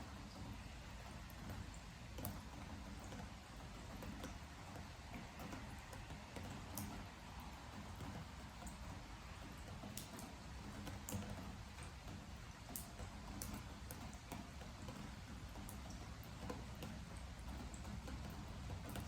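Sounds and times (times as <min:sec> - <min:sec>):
soft hiss of rain: 0:00.0 - 0:19.0
water drops ticking on wood: 0:00.1 - 0:19.0.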